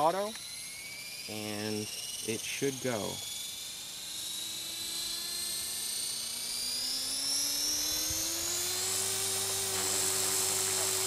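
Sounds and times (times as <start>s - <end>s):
rc helicopter rotor whine: 0.0s - 11.0s.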